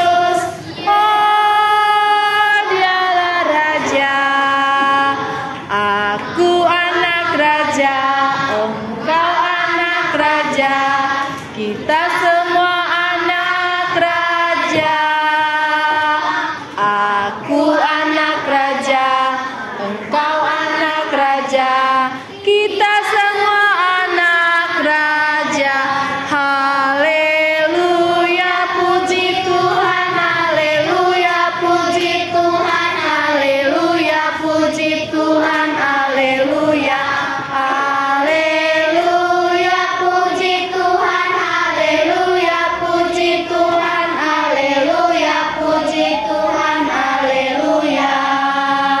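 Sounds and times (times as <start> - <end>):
children singing together: 0.0 - 49.0.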